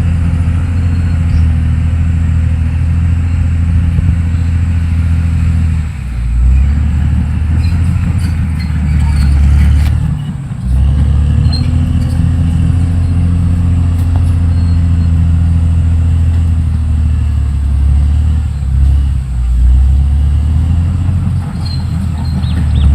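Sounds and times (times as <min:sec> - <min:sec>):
bulldozer diesel engine drone: 0:00.0 - 0:22.9.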